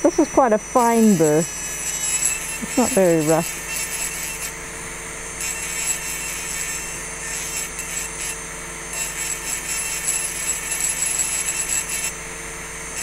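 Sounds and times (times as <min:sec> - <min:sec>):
rotary tool grinding glass: 0:00.0 - 0:13.0.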